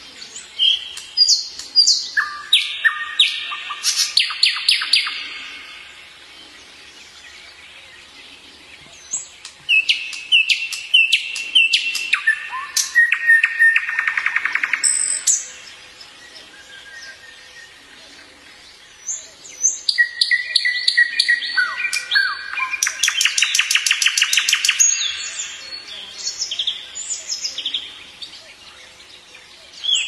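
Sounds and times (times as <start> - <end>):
nightingale singing: 0.0 - 30.0.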